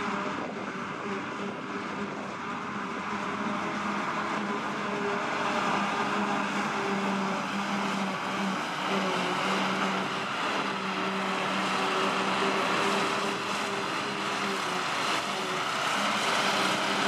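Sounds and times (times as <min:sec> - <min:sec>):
forage harvester running: 0:00.0 - 0:17.0
tractor engine running: 0:00.0 - 0:17.0.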